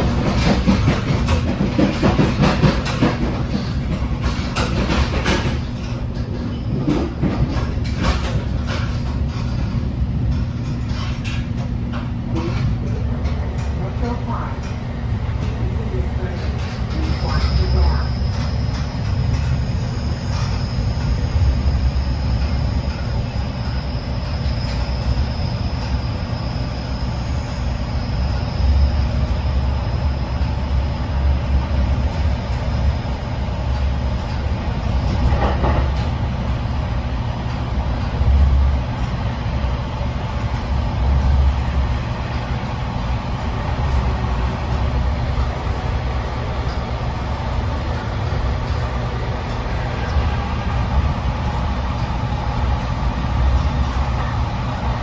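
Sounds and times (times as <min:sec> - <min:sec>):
train wheels rumbling: 0:00.0 - 0:55.0.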